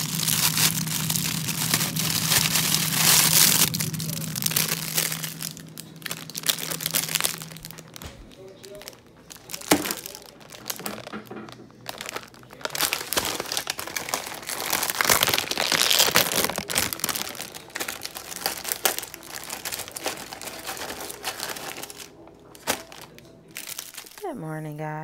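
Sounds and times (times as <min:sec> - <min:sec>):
plastic packaging crinkling: 0:00.0 - 0:24.5.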